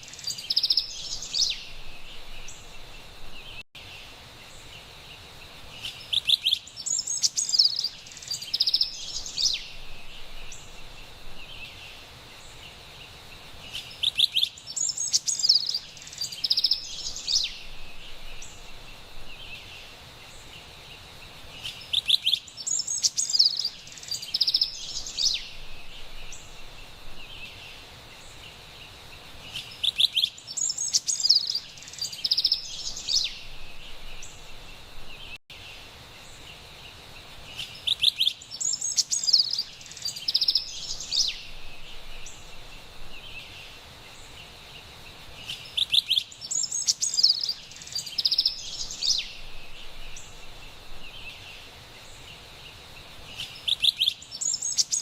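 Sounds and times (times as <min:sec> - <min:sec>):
wren singing: 0:00.0 - 0:03.6, 0:05.8 - 0:12.8, 0:13.6 - 0:20.6, 0:21.5 - 0:28.5, 0:29.4 - 0:35.4, 0:37.5 - 0:55.0
forest background hiss: 0:00.0 - 0:55.0.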